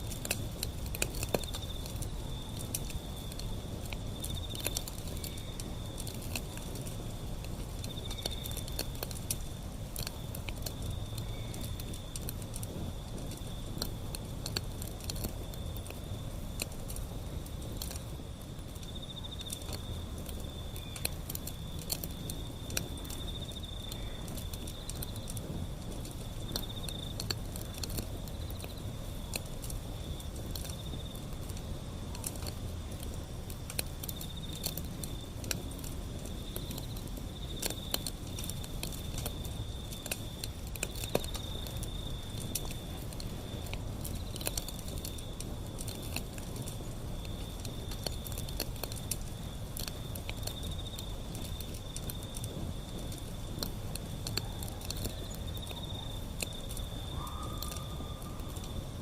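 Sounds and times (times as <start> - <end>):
insects trilling: 0.0 - 59.0
wood fire crackling: 0.0 - 59.0.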